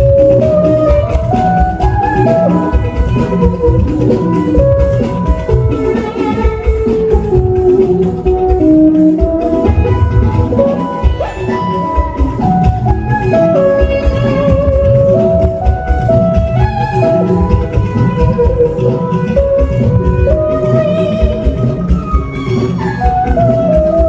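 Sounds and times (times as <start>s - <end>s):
drums and percussion: 0.0s - 24.0s
melodic lead line: 0.0s - 24.0s.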